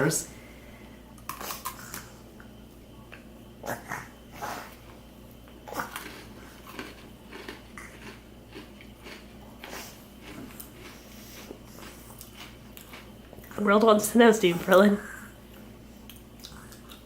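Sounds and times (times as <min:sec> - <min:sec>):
chewing crunchy cookie: 0:01.1 - 0:14.0, 0:15.4 - 0:17.0.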